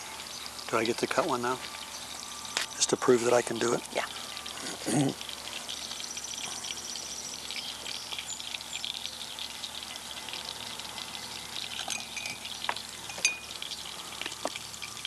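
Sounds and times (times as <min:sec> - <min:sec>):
butter sizzling in a pot: 0:00.0 - 0:15.0.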